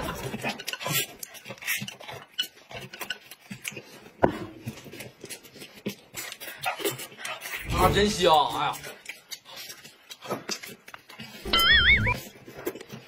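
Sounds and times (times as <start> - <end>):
chewing and slurping noodles: 0.0 - 13.0.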